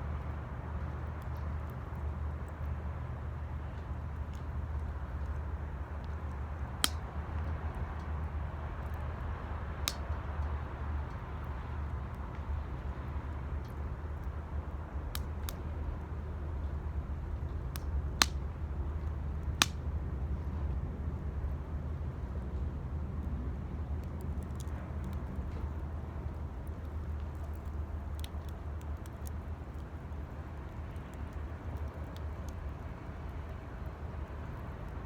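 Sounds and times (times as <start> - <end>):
wood fire low rumble: 0.0 - 35.0
fire crackling pops: 0.1 - 20.2, 23.2 - 35.0.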